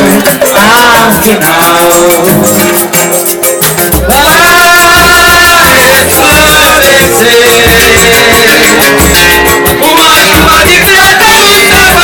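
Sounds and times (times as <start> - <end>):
live samba band playing: 0.0 - 12.0.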